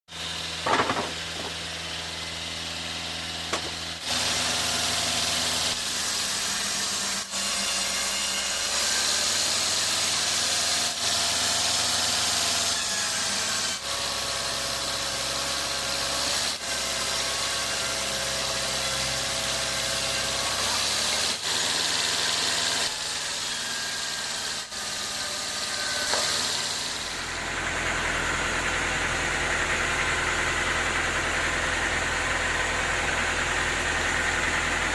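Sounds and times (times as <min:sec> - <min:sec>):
sawmill engine drone: 0:00.1 - 0:34.9.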